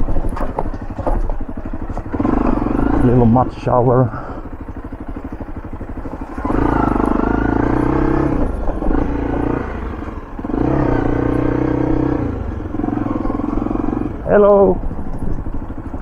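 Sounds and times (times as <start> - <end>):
motorbike engine pulling under load: 0.0 - 16.0.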